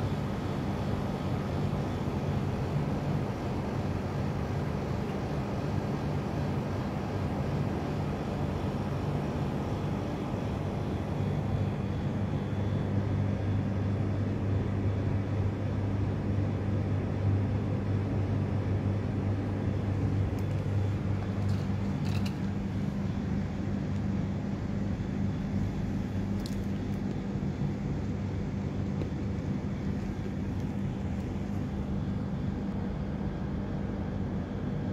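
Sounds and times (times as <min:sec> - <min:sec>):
low machine hum: 0:00.0 - 0:34.9.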